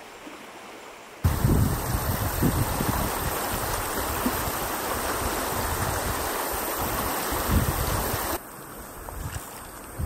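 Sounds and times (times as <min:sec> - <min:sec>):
shallow river rushing over stones: 0:00.0 - 0:10.0.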